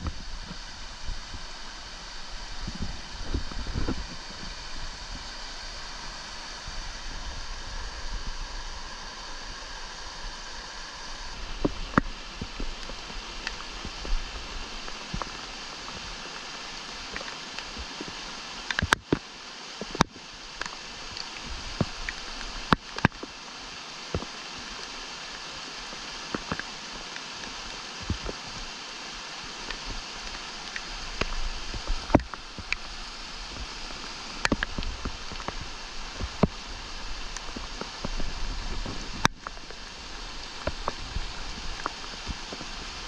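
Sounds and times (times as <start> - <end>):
creek splashing over rocks: 0.0 - 43.0.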